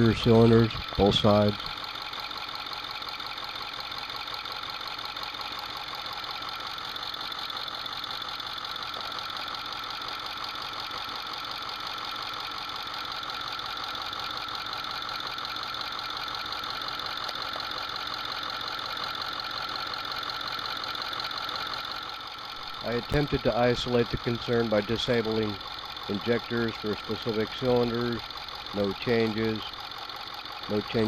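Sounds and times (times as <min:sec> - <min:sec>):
diesel engine running: 0:00.0 - 0:31.0
fast chirping engine tick: 0:00.0 - 0:31.0.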